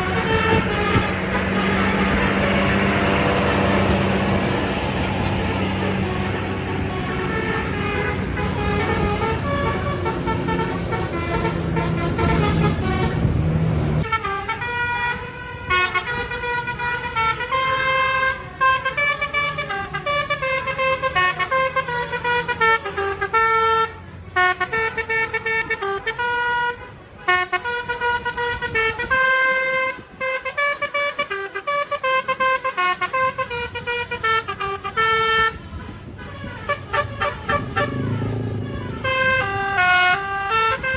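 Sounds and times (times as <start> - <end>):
bus engine running: 0.0 - 29.9, 30.8 - 40.9
musical horn playing a tune: 0.0 - 40.9.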